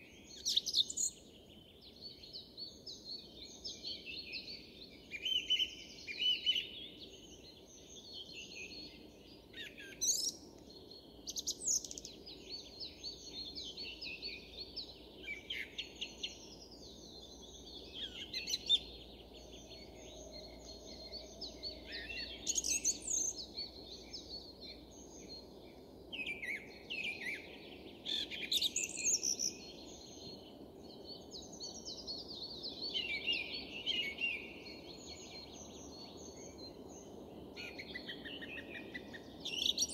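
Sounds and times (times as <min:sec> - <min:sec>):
song thrush singing: 0:00.0 - 0:39.9.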